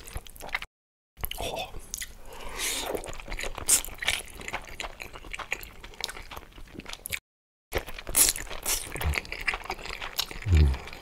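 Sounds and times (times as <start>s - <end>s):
slurping and chewing noodles: 1.9s - 11.0s.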